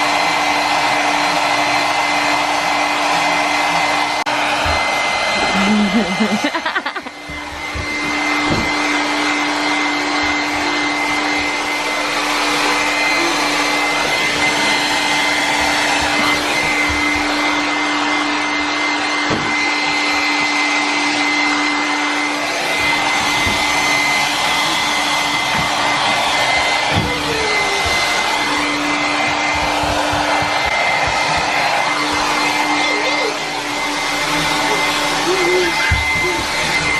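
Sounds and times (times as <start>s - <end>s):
hair dryer running: 0.0s - 36.9s.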